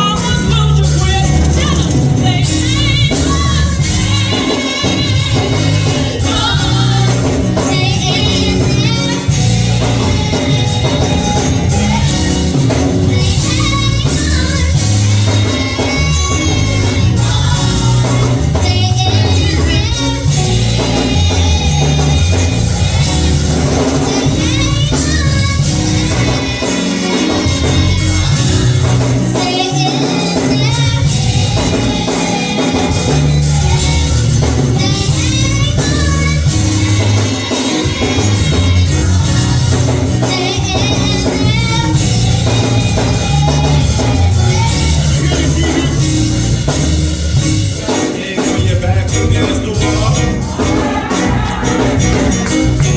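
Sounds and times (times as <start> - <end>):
gospel singing: 0.0 - 52.9
heavy bass line: 0.0 - 52.9
steady beat: 0.0 - 52.9.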